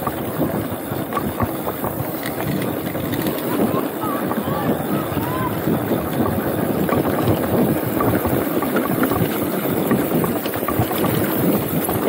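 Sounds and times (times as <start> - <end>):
bike clicks and rattles: 0.0 - 12.0
tyres rumbling over gravel: 0.0 - 12.0
wind on microphone: 0.0 - 12.0.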